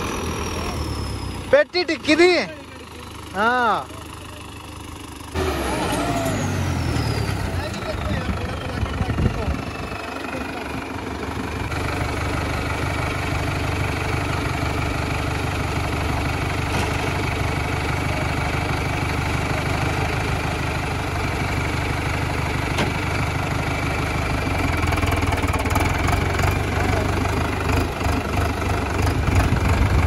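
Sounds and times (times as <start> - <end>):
tractor diesel engine idling: 0.0 - 30.0.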